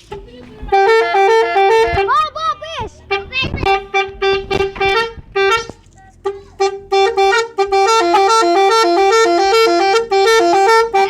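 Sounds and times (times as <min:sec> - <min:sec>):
multi-tone vehicle horn tune: 0:00.0 - 0:11.0.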